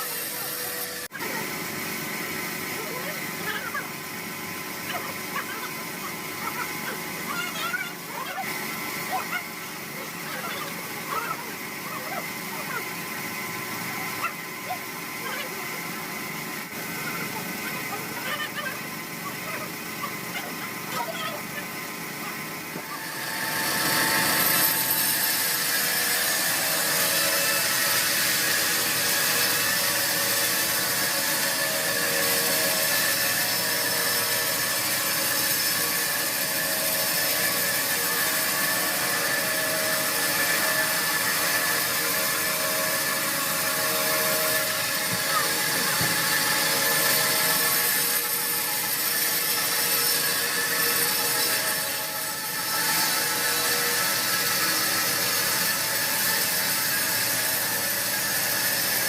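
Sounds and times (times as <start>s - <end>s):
sawmill saw cutting log: 0.0s - 59.0s.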